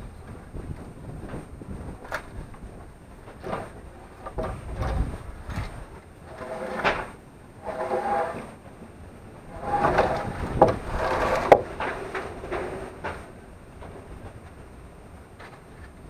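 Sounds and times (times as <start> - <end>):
wood scraping and squeaking: 0.1 - 14.5.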